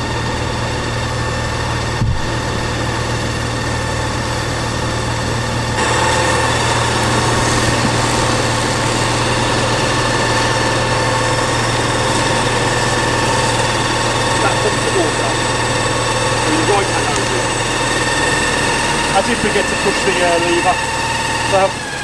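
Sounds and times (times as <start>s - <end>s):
fire engine running at raised throttle: 0.0s - 22.0s.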